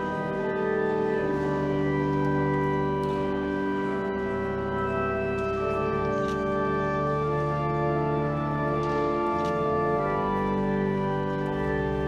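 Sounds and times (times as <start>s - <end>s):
sustained keyboard chords: 0.0s - 12.0s.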